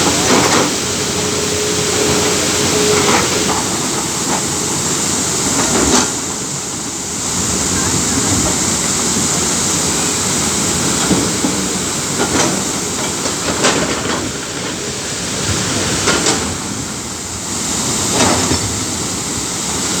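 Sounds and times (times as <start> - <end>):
excavator engine: 0.0 - 20.0.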